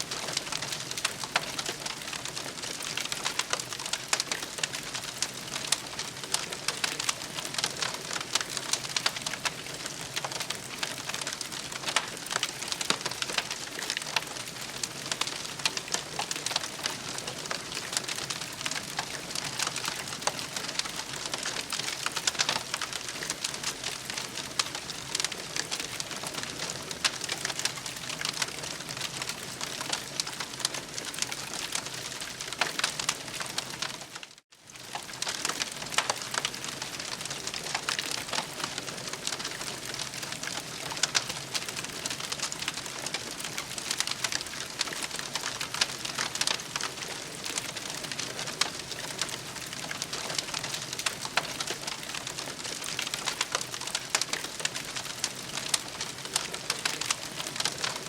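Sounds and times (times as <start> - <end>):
campfire crackling and popping: 0.1 - 58.0.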